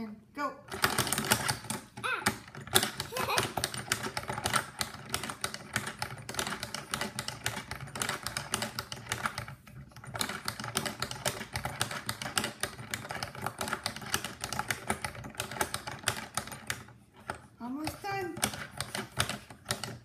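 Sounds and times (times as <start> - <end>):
pasta maker crank clicking and rattling: 0.7 - 20.0.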